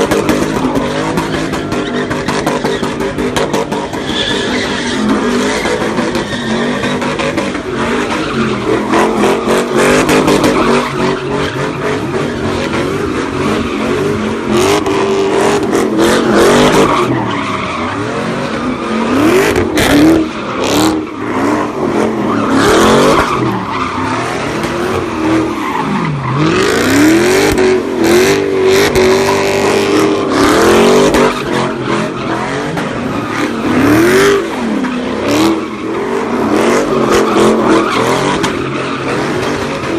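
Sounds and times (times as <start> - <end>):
car engine revving hard: 0.0 - 39.9
tires skidding and squealing: 0.0 - 39.9.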